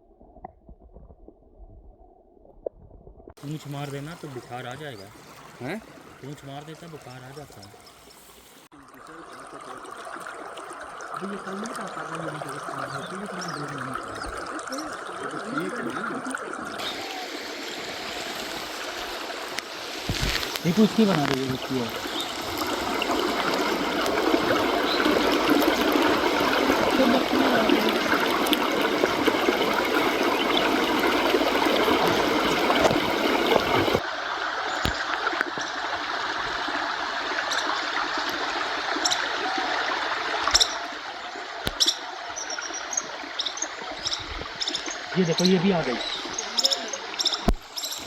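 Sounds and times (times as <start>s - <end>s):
water trickling: 3.4s - 48.0s.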